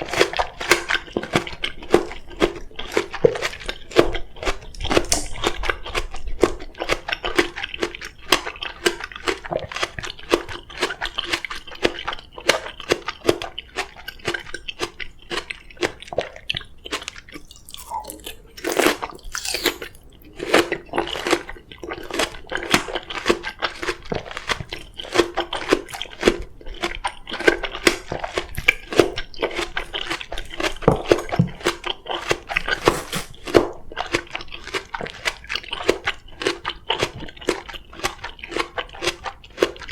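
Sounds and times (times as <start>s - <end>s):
chewing crisp melon: 0.0s - 39.9s.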